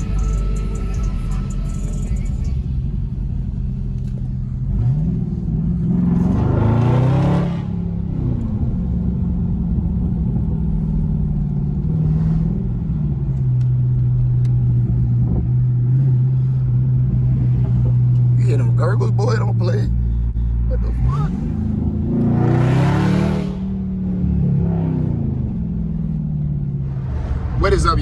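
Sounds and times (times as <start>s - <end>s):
car exhaust revving: 0.0s - 28.0s.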